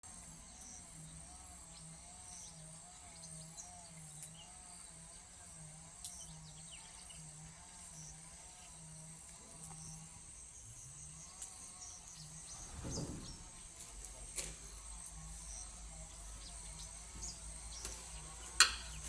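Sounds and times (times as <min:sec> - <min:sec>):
insects droning high-pitched: 0:00.1 - 0:19.0.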